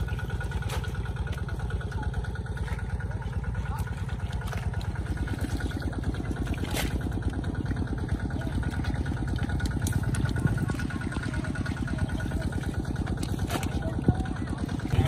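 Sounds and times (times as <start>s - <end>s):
small pump motor running: 0.0s - 15.0s.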